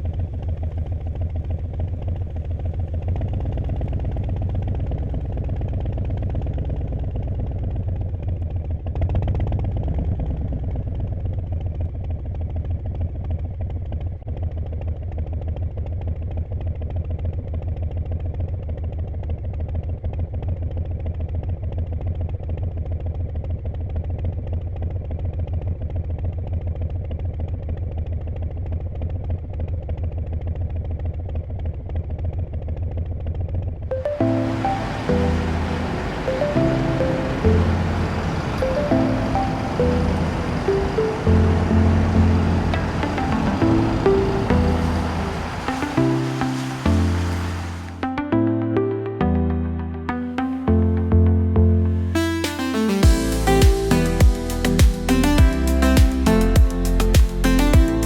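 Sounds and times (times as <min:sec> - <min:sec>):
motorcycle engine idling: 0:00.0 - 0:46.4, 0:53.0 - 0:58.0.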